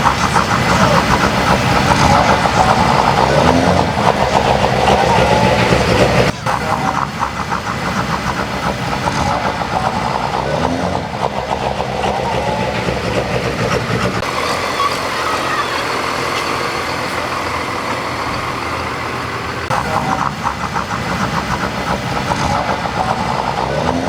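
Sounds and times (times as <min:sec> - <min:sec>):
diesel truck engine rattling: 0:00.0 - 0:24.0.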